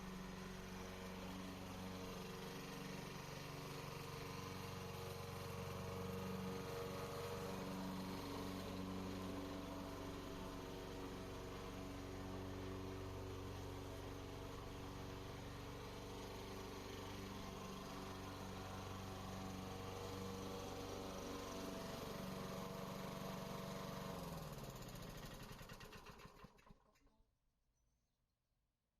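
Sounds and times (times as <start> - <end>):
lawn mower engine running: 0.0 - 27.0
lawn mower engine winding down: 0.0 - 27.2.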